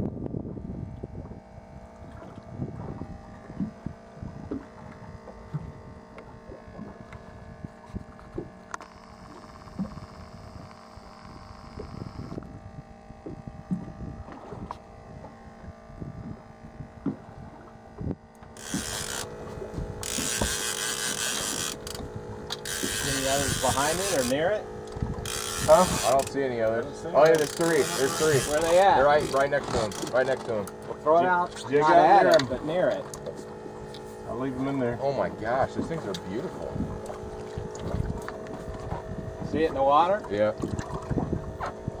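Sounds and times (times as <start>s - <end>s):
outboard motor running: 0.0s - 42.0s
water knocking against hull: 2.0s - 10.8s, 13.1s - 15.4s, 16.9s - 31.7s, 32.3s - 34.1s, 35.5s - 42.0s.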